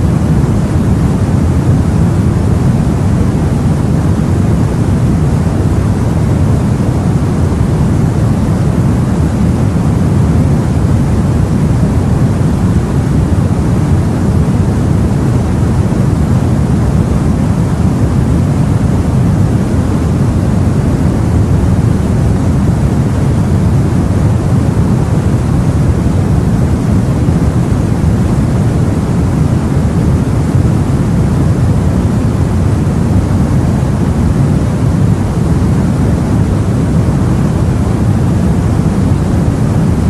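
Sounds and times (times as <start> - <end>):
rumbling rush of sea and wind: 0.0 - 40.0.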